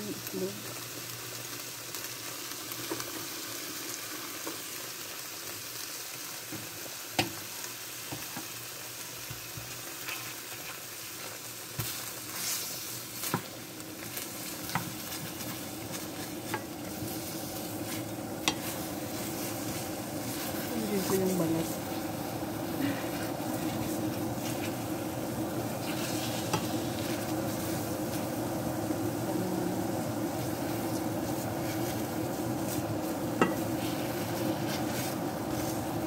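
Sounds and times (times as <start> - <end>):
chicken sizzling in a frying pan: 0.0 - 36.0.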